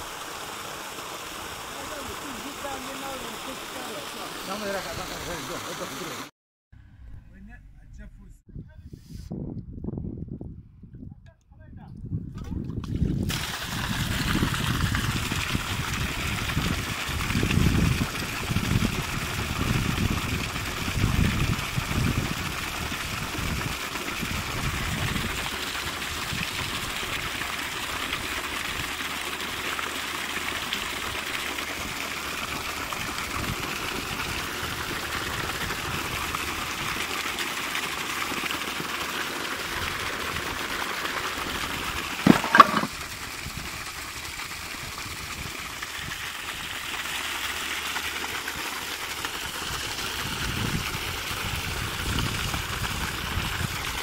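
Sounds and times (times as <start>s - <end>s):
water gushing and splashing: 0.0s - 6.3s, 12.4s - 54.0s.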